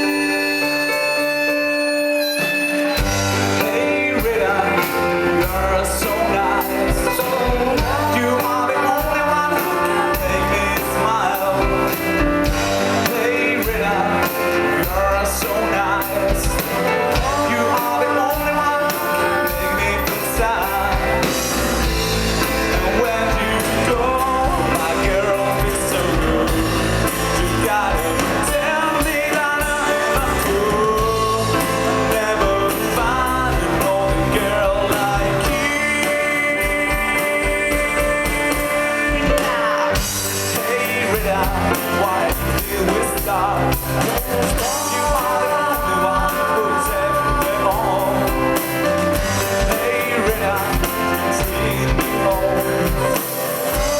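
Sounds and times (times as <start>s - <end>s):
rock music with singing: 0.0s - 53.9s.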